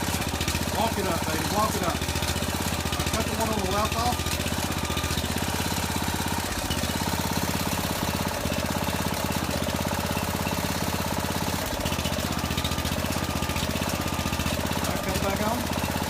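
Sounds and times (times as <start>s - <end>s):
small engine running under load: 0.0s - 16.0s.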